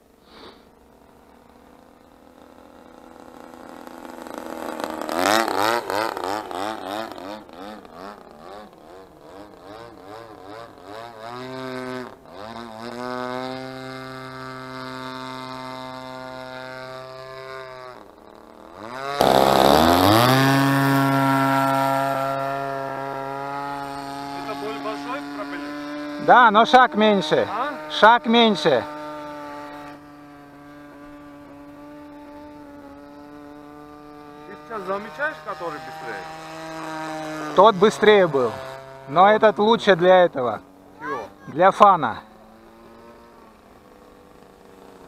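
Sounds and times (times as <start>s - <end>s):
model plane engine flying past: 0.0s - 45.0s
model plane engine full throttle: 0.0s - 45.0s.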